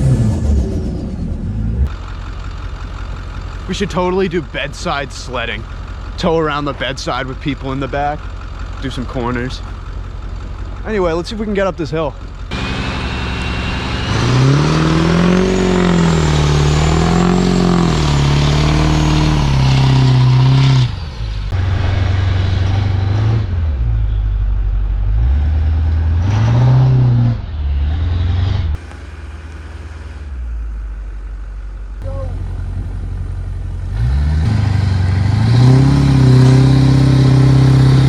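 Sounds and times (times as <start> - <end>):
diesel engine revving: 0.0 - 38.0.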